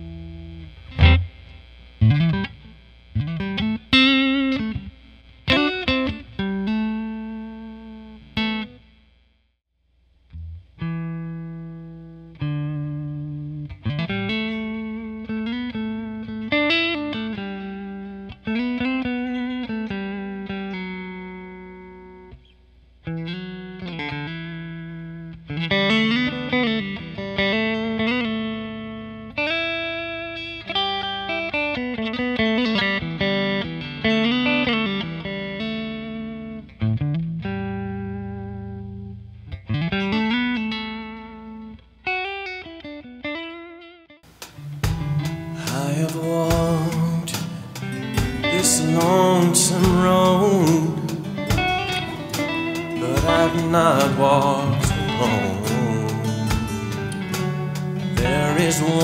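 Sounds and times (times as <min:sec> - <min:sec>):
electric guitar through amp: 0:00.0 - 0:09.2, 0:10.3 - 0:59.0.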